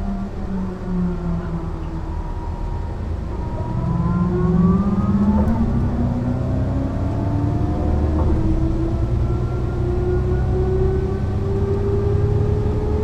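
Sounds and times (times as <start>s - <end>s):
bus engine accelerating: 0.0s - 13.0s.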